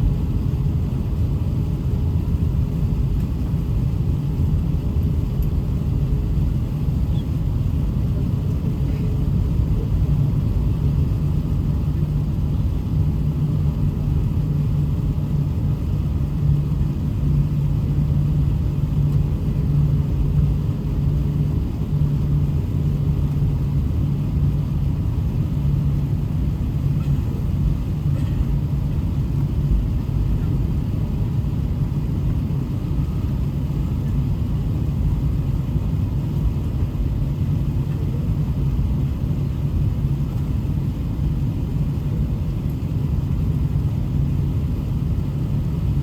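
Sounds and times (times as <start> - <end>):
airplane cabin rumble: 0.0 - 46.0
constant low hum: 0.0 - 46.0.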